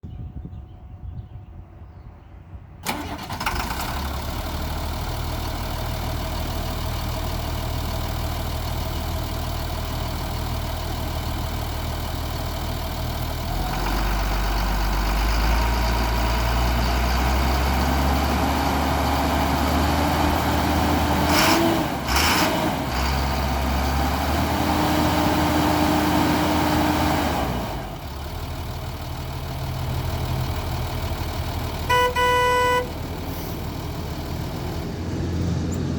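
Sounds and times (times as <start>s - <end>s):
truck engine starting: 2.7s - 35.9s
truck engine idling: 2.8s - 35.9s.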